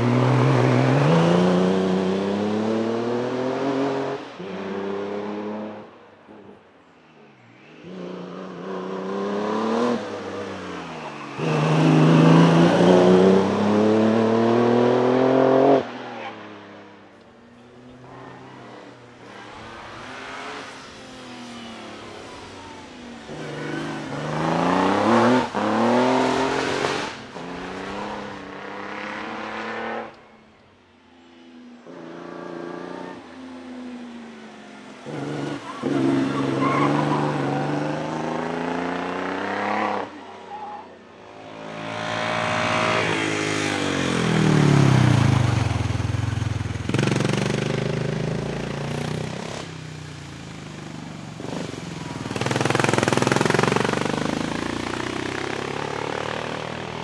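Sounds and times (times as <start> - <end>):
racing car engines revving: 0.0 - 57.0.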